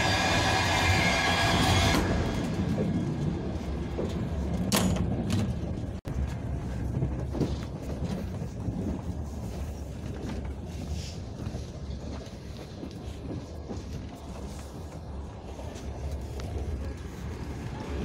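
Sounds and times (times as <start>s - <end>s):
train car rumbling: 0.0s - 18.0s.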